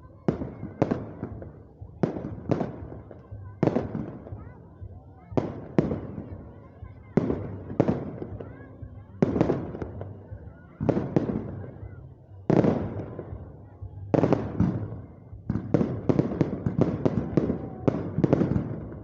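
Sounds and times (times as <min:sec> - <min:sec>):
fireworks bangs with echo: 0:00.2 - 0:19.0.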